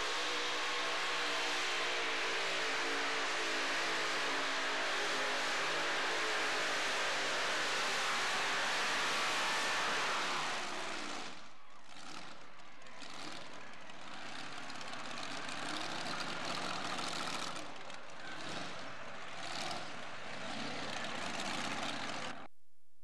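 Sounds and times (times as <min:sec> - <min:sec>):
truck engine rough idle: 0:00.0 - 0:22.5.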